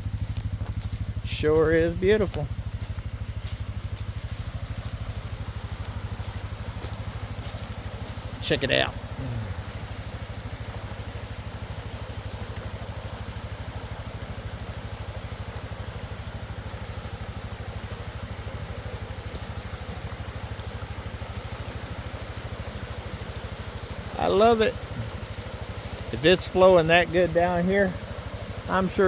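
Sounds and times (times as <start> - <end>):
atv engine idling: 0.0 - 29.0
creek rushing: 0.0 - 29.0.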